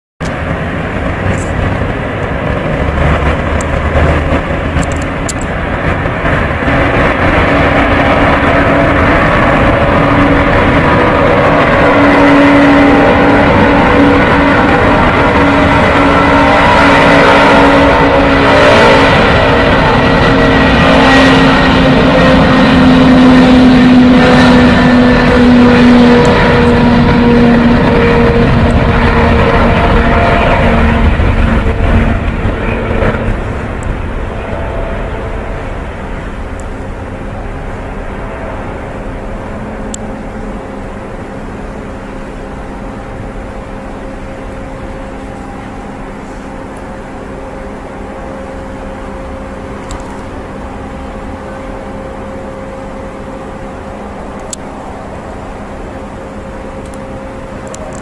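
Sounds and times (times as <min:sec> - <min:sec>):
jet engines rumbling: 0:00.2 - 0:58.0.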